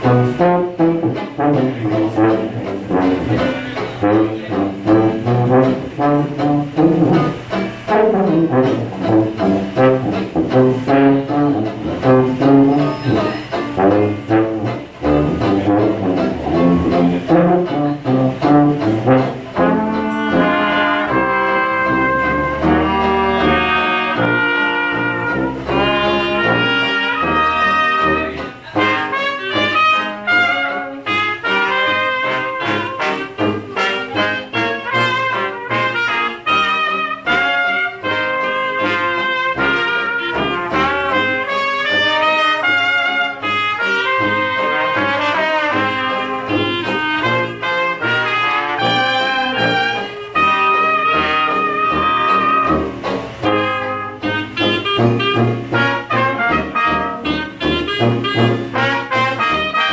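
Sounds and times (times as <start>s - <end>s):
deep sustained tuba notes: 0.0s - 59.9s
horns playing long held notes: 0.0s - 59.9s
jazz band playing: 0.0s - 59.9s.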